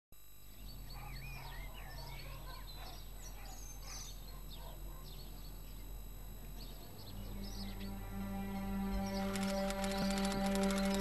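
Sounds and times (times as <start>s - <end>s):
faint low hum: 0.2s - 11.0s
birds chirping and whistling: 0.6s - 5.9s, 6.6s - 11.0s.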